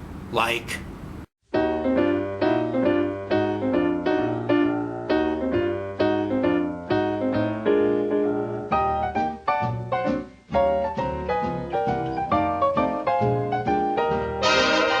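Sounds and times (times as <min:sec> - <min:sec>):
piano chords: 0:01.5 - 0:15.0.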